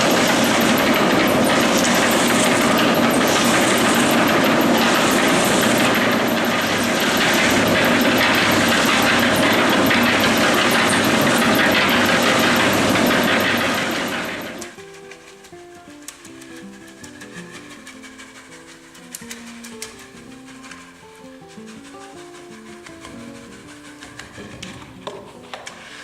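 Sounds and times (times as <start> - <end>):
concrete mixer running: 0.0 - 26.0.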